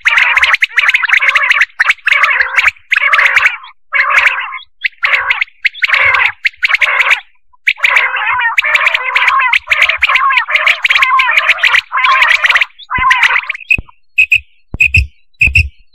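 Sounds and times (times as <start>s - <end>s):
quail calling: 0.0s - 15.8s.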